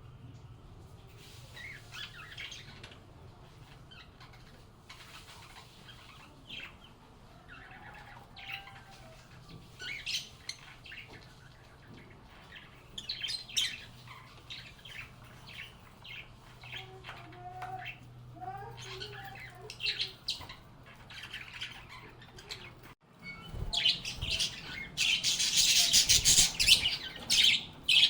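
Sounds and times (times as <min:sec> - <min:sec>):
lovebirds chirping: 0:01.4 - 0:28.0.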